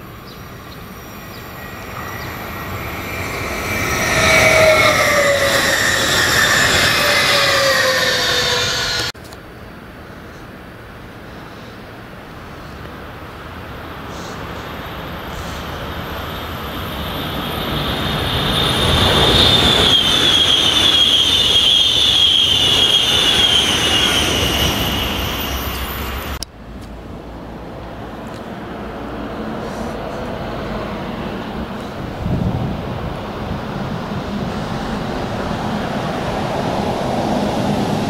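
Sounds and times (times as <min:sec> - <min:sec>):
train high whine: 0:00.0 - 0:09.2, 0:12.4 - 0:26.4, 0:27.0 - 0:38.0
train wheels rushing on rail: 0:00.0 - 0:09.2, 0:13.6 - 0:26.4, 0:27.4 - 0:38.0.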